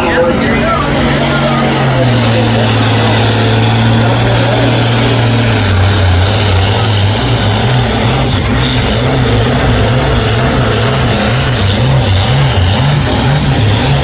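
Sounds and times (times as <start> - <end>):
tractor engine at high revs: 0.0 - 14.0.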